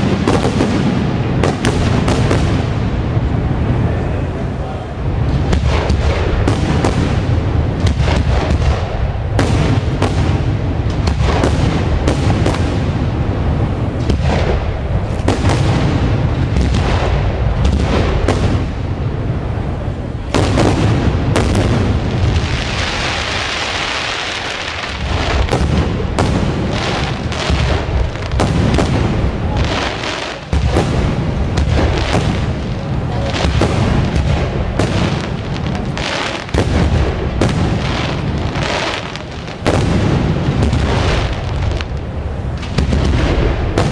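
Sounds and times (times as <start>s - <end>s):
fireworks booming: 0.0s - 43.9s
fireworks hissing crackle: 0.0s - 43.9s.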